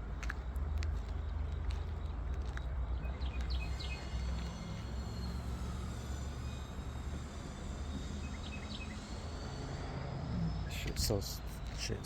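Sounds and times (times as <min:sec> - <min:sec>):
insects droning: 0:00.3 - 0:12.0.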